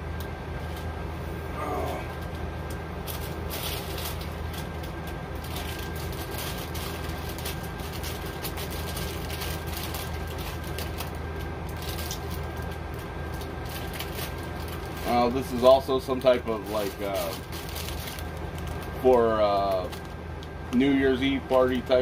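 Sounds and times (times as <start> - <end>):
low mechanical hum with whine: 0.0 - 22.0
packaging rustling and crinkling: 3.0 - 22.0.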